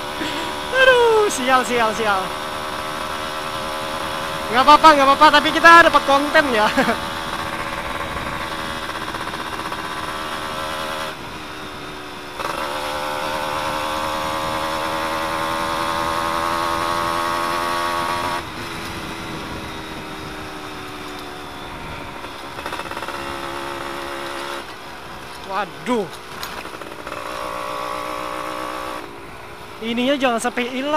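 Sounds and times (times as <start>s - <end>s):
loud two-stroke motorcycle engine revving: 0.0s - 30.9s.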